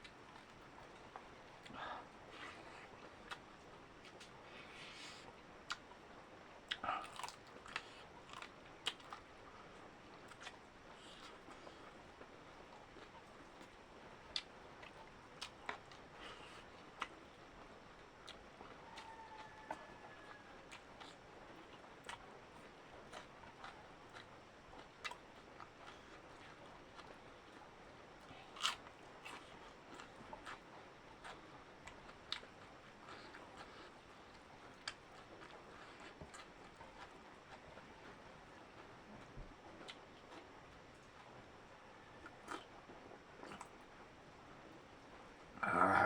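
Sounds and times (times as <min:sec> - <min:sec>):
person chewing food: 0:00.0 - 0:05.9, 0:06.7 - 0:09.3, 0:10.2 - 0:41.3, 0:42.0 - 0:43.9.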